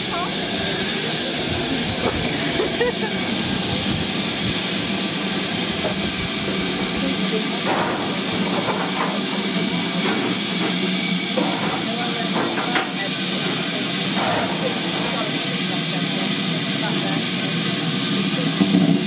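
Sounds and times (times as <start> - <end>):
steam locomotive hissing steam: 0.0 - 19.0.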